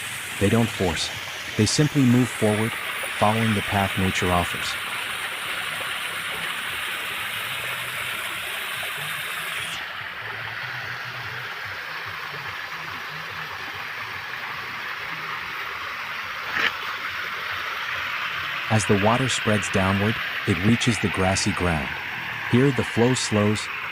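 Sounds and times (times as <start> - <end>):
stream of water running: 0.0 - 23.9.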